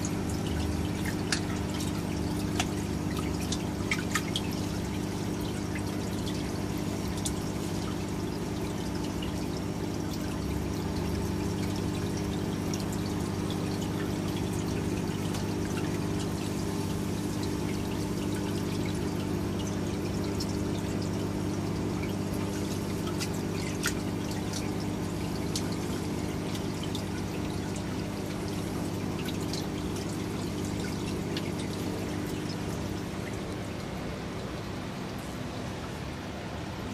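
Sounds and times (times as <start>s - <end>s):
water pouring into tank: 0.0s - 36.2s
steady low hum: 0.0s - 36.9s.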